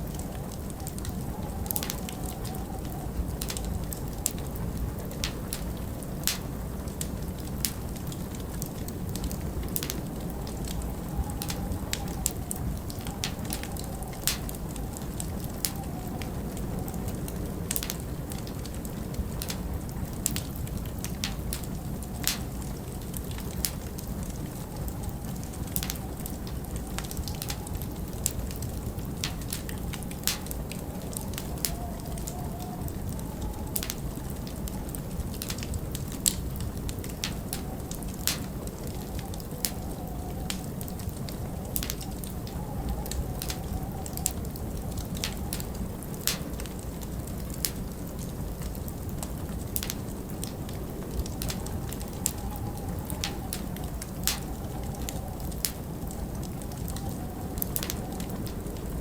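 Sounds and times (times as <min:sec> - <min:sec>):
winter wind rumbling and howling: 0:00.0 - 0:59.0
wood fire crackling: 0:00.0 - 0:59.0.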